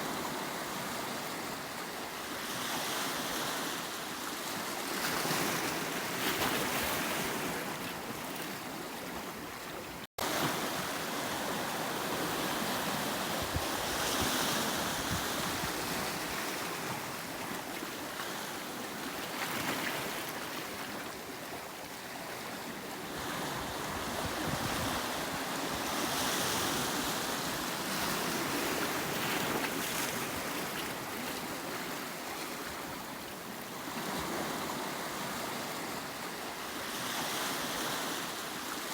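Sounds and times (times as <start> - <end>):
surf washing against rocks: 0.0 - 21.3, 22.5 - 38.9.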